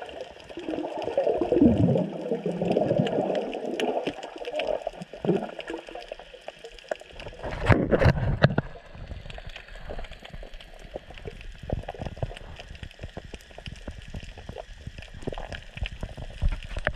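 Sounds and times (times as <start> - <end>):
bubbling gurgle: 0.0 - 16.9
underwater clicking crackle: 0.0 - 16.9.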